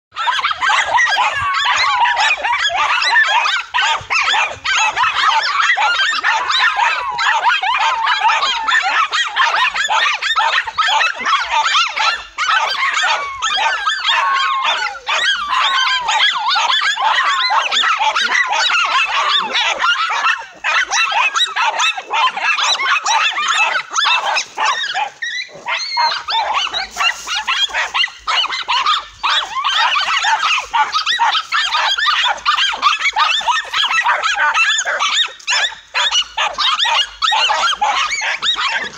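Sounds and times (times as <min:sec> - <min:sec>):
dogs barking and yelping: 0:00.1 - 0:38.9.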